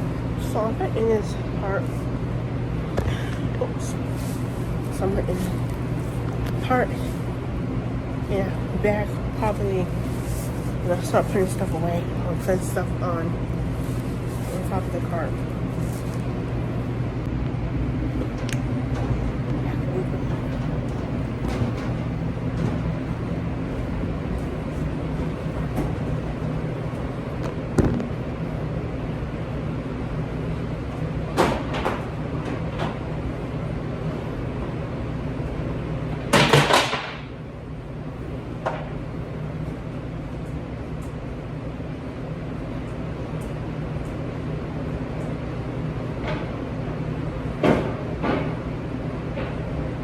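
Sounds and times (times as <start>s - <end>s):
low machine hum: 0.0s - 50.0s.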